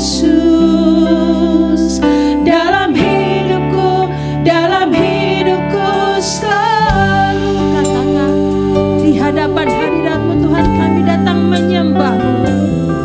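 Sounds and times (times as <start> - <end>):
people singing: 0.0 - 10.8
band playing slow song: 0.0 - 13.0.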